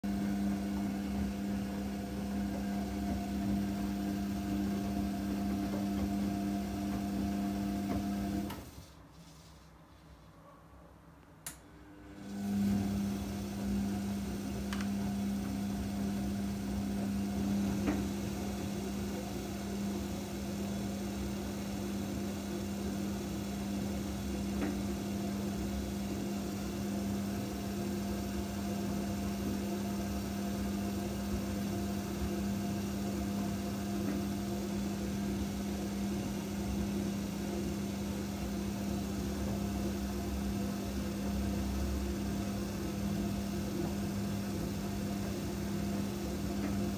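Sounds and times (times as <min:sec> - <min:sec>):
washing machine running: 0:00.0 - 0:09.0, 0:11.8 - 0:46.9.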